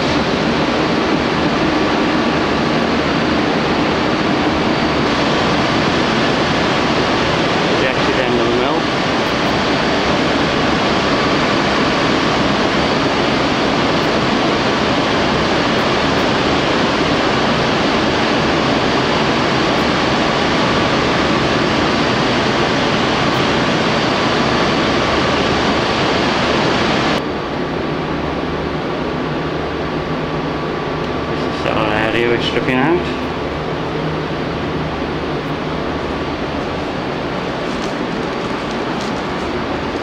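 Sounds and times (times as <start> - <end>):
faint high whine: 0.0 - 40.0
industrial machinery roar: 0.0 - 40.0
low hum: 0.0 - 40.0.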